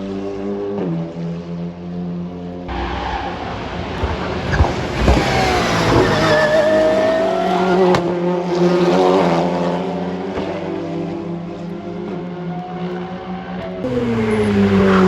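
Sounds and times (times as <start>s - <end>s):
race car engine accelerating: 2.6s - 15.0s.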